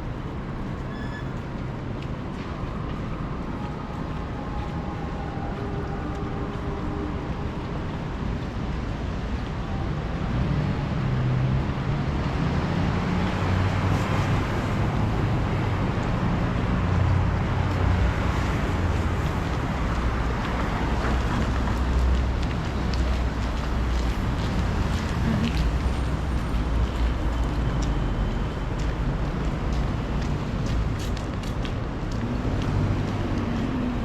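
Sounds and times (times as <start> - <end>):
road noise: 0.0 - 34.0
vehicles passing: 1.6 - 34.0.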